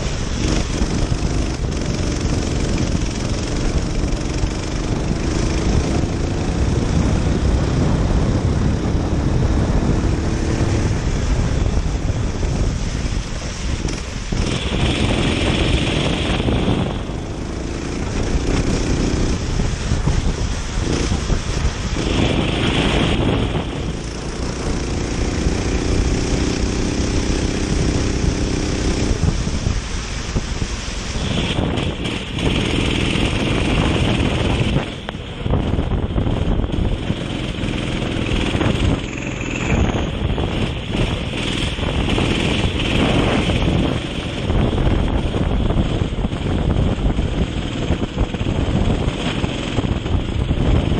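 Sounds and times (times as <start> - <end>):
kart engine racing: 0.0 - 29.9, 30.7 - 50.9
wind rushing over microphone: 0.0 - 50.9.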